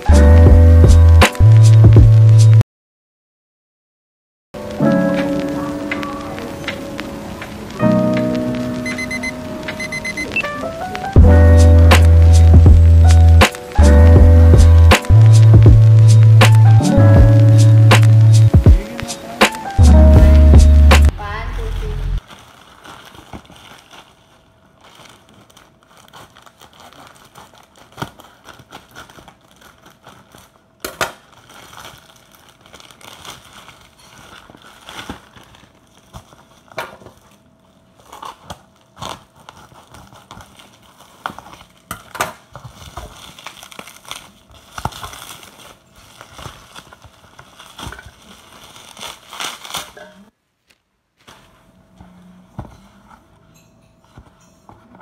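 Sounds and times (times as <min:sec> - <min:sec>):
plastic and bubble wrap crinkling: 0:00.0 - 0:02.6, 0:04.6 - 0:55.0.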